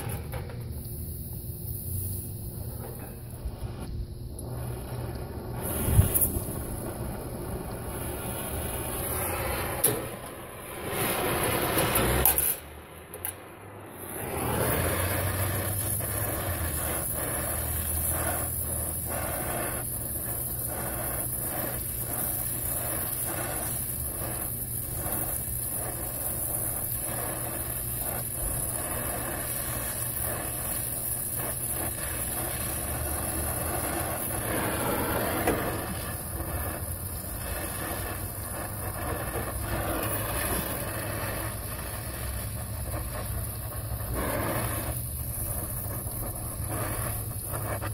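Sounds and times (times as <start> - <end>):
torch flame hissing: 0.0 - 47.9.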